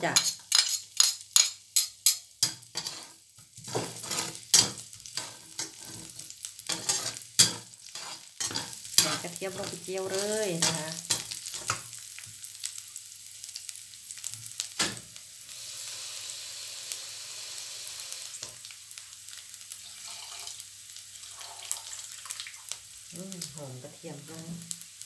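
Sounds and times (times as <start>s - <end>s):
garlic sizzling in hot oil: 0.0s - 25.0s.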